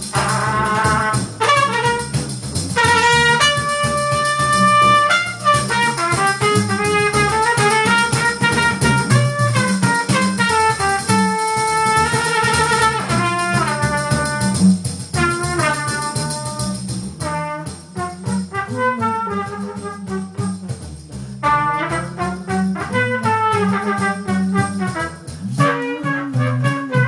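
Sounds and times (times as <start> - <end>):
rhythmic beat: 0.0 - 27.0
trumpet melody: 0.0 - 27.0.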